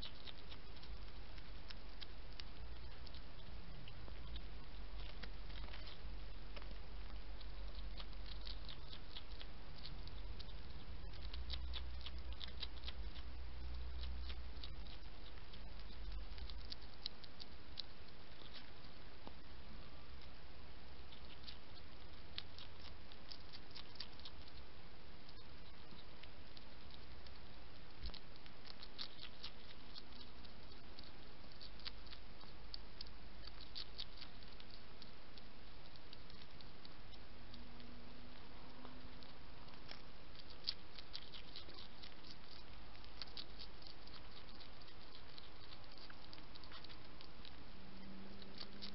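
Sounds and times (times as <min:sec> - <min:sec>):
hedgehog chewing and smacking: 0:00.0 - 0:48.9
steady low hum: 0:00.0 - 0:48.9.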